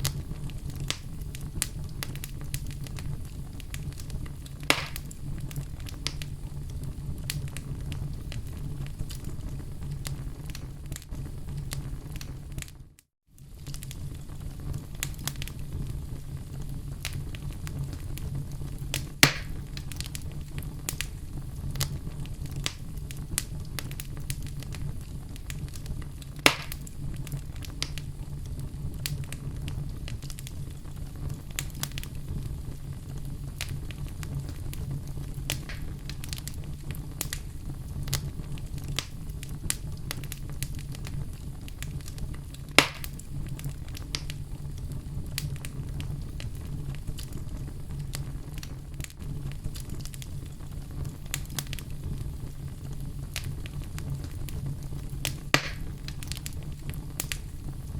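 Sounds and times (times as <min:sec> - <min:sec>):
sharp fire pops: 0:00.0 - 0:57.9
wood fire crackling: 0:00.0 - 0:57.9.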